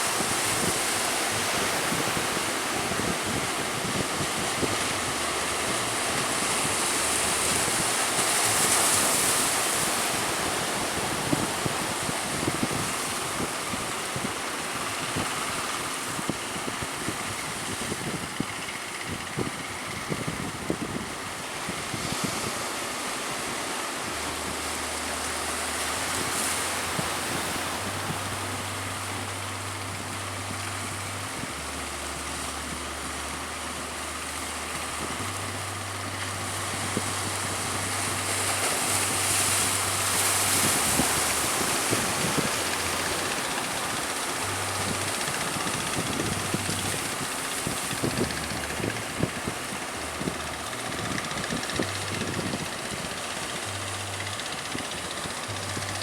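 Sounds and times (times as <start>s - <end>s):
strong wind on microphone: 0.0s - 24.7s, 34.8s - 56.0s
low engine hum: 0.0s - 56.0s
sea waves: 0.0s - 56.0s.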